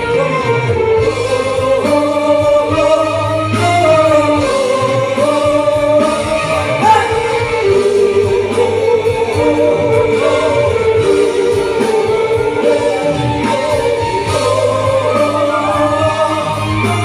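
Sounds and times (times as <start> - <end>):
live band playing a slow ballad: 0.0 - 17.0
violin gliding melody: 0.0 - 17.0.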